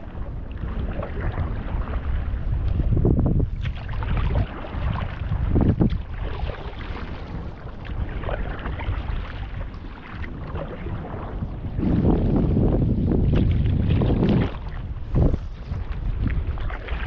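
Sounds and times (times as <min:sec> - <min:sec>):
paddle splashing in water: 0:00.0 - 0:17.0
wind on microphone: 0:00.0 - 0:17.0.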